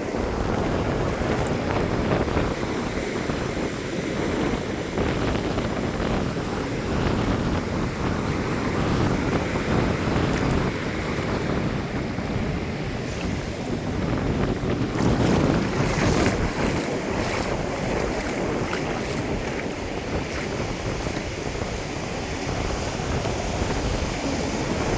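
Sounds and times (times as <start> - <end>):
ocean surf washing up: 0.0 - 24.9
wind buffeting microphone: 0.0 - 24.9.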